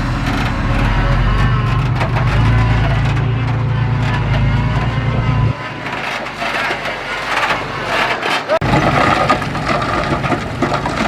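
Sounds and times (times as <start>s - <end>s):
heavy diesel engine drone: 0.0s - 11.0s
knocks and clatter: 0.0s - 11.0s.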